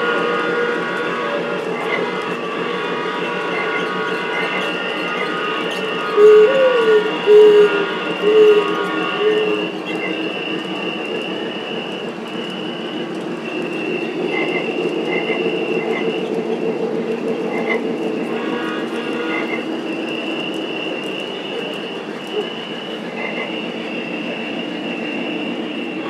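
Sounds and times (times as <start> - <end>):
model train wheels rumbling: 0.0 - 26.0
steady high whine: 0.0 - 26.0.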